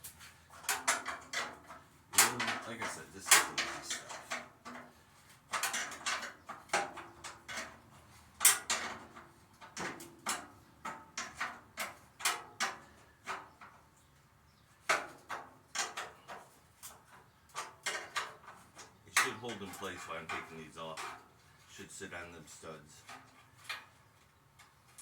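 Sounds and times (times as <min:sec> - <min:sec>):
hand tools clinking on metal: 0:00.0 - 0:04.9, 0:05.5 - 0:13.7, 0:14.9 - 0:24.0.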